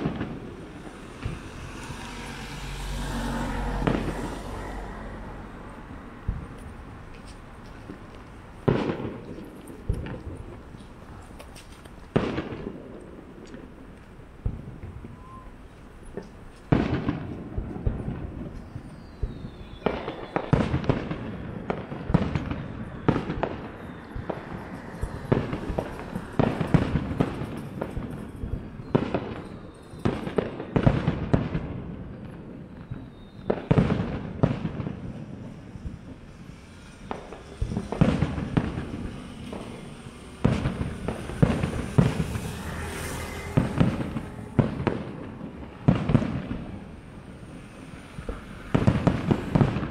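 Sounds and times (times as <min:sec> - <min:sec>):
firework shells booming: 0:00.0 - 0:02.1, 0:03.7 - 0:15.4, 0:16.1 - 0:49.9.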